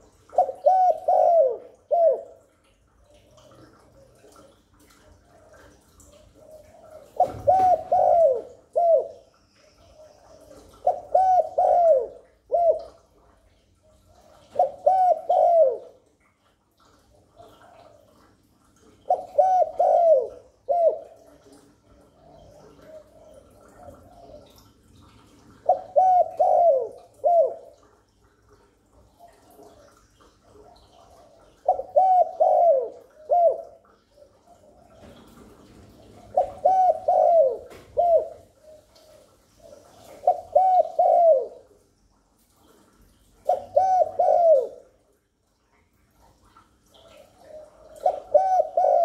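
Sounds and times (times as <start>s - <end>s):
dove cooing: 0.0s - 16.1s, 17.3s - 27.9s, 30.6s - 41.8s, 43.4s - 45.0s, 46.9s - 49.0s.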